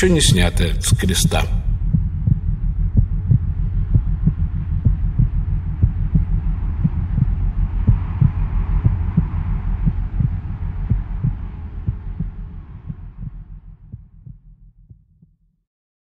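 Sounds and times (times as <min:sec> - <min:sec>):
low pulsing drone: 0:00.0 - 0:15.2.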